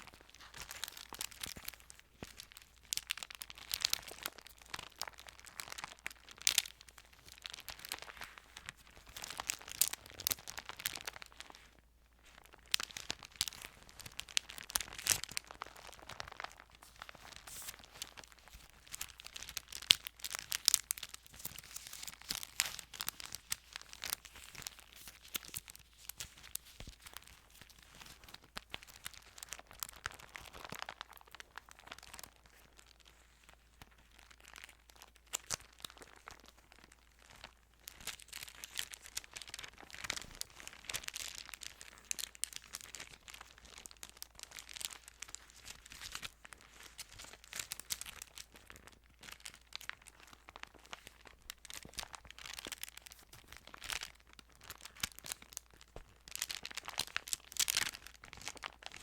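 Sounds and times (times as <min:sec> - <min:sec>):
thin paper crinkling and rustling: 0:00.0 - 0:59.0.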